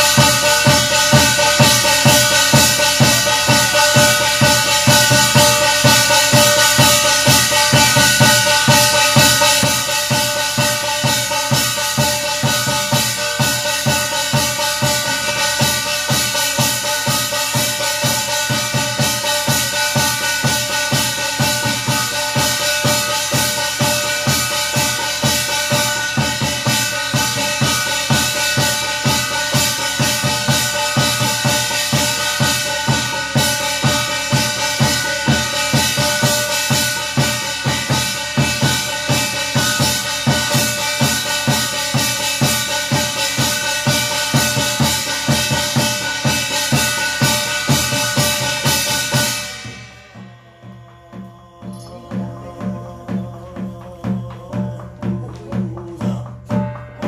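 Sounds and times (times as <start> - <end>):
barrel drum beating: 0.0 - 57.0
ritual chanting: 0.0 - 57.0.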